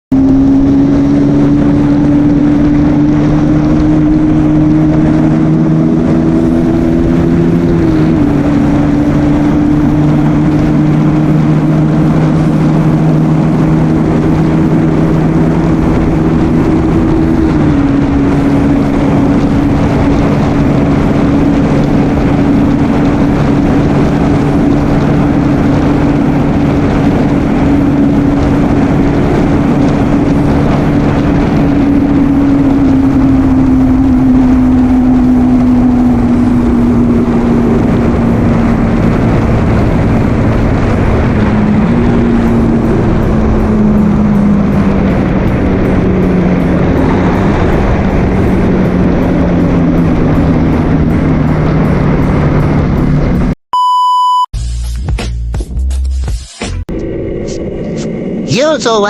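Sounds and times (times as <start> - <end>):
motorcycle engine running: 0.1 - 53.6.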